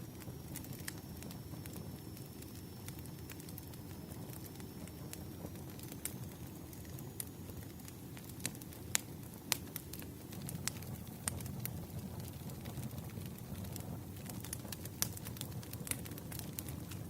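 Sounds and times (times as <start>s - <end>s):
crackles and pops of fire: 0.0s - 17.0s
firewood burning: 0.0s - 17.0s.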